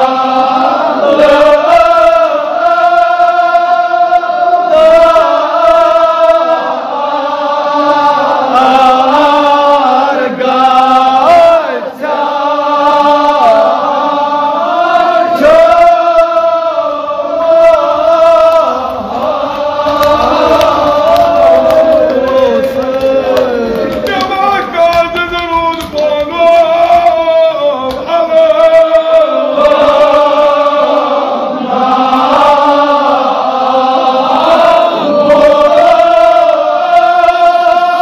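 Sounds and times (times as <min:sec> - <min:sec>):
men chanting together: 0:00.0 - 0:38.0.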